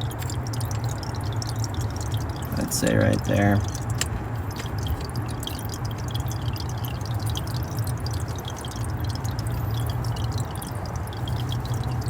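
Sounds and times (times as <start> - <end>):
water dripping and spattering: 0.0 - 12.0.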